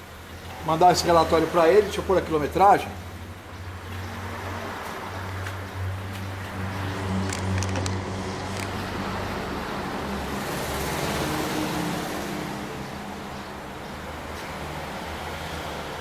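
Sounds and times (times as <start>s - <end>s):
broad background noise: 0.0s - 16.0s.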